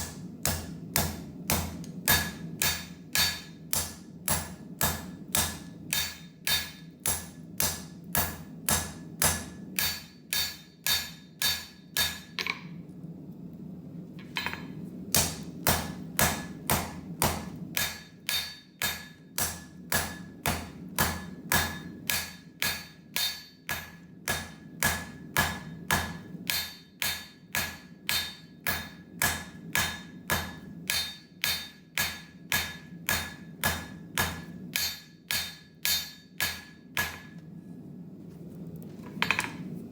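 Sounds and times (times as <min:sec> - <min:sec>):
hammer striking metal on anvil: 0:00.0 - 0:12.7, 0:14.4 - 0:37.4
steady low hum: 0:00.0 - 0:39.9.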